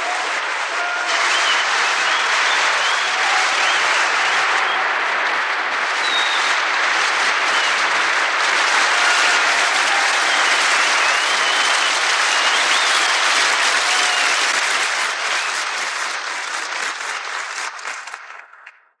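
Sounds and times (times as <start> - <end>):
audience applauding and cheering: 0.0 - 19.0.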